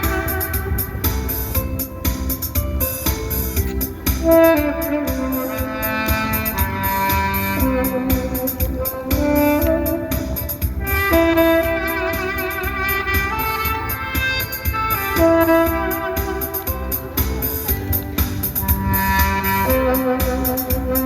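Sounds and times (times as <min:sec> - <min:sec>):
backing track with steady beat: 0:00.0 - 0:21.0
saxophone slow melody: 0:00.0 - 0:21.0.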